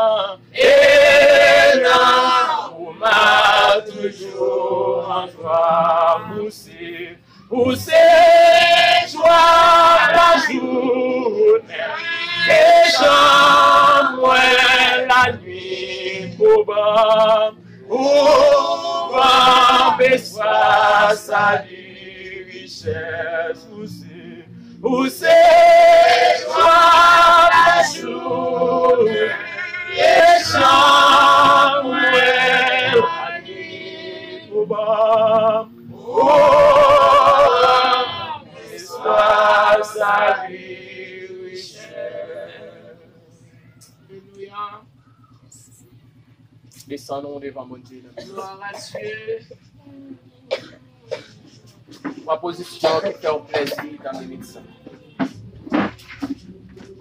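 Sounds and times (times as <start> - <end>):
people singing worship song: 0.0 - 45.5, 48.2 - 57.0.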